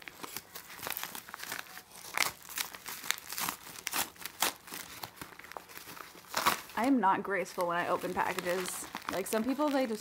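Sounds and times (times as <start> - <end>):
paper envelope ripping and crinkling: 0.0 - 10.0.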